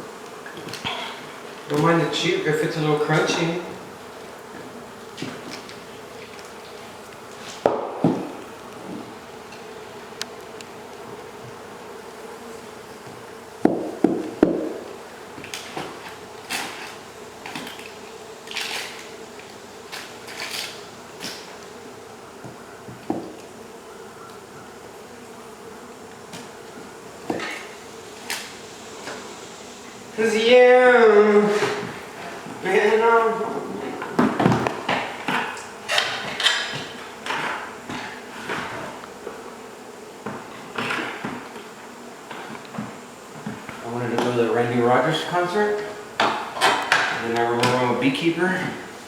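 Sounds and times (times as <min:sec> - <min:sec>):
honey bees buzzing: 0:00.0 - 0:49.0
scraping and rustling: 0:00.1 - 0:49.0.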